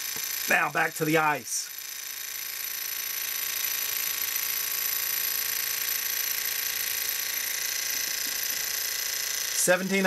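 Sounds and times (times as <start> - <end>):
small engine high-pitched whir: 0.0 - 10.0.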